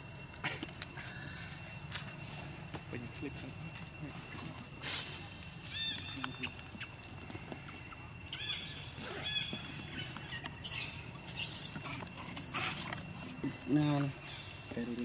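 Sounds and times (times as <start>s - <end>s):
birds chirping: 0.0s - 15.0s
low outdoor hum: 0.0s - 15.0s
thin high tone: 0.0s - 15.0s.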